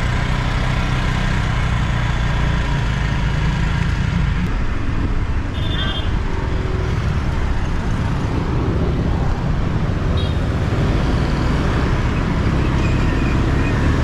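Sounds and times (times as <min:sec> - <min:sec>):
traffic: 0:00.0 - 0:14.0.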